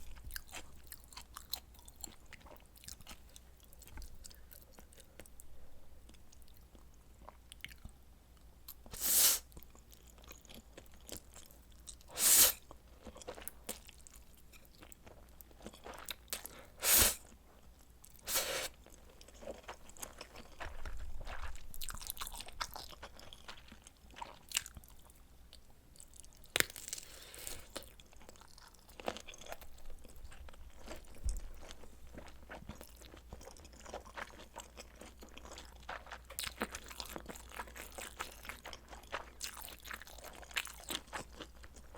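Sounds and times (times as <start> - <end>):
chewing and mouth sounds: 0.0 - 8.0, 9.5 - 41.9.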